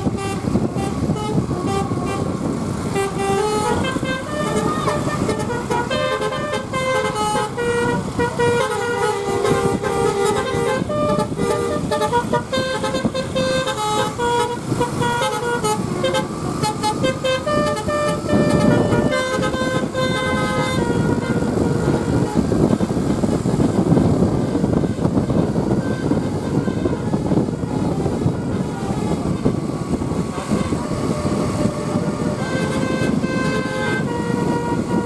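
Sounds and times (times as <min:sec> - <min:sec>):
bus engine and road noise: 0:00.0 - 0:35.0
musical bus horn playing a tune: 0:00.0 - 0:35.0.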